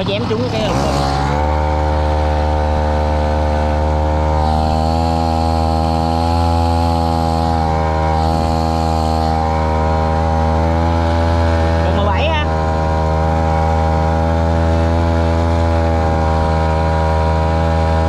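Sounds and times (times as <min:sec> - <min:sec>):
small boat engine running: 0:00.0 - 0:18.0.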